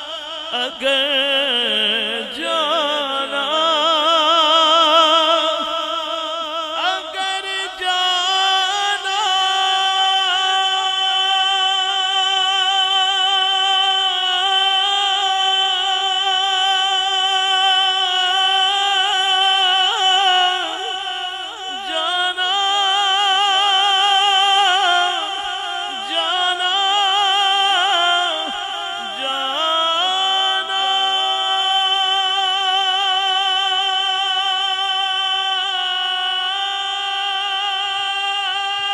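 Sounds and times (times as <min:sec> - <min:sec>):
man singing with vibrato: 0:00.0 - 0:38.9.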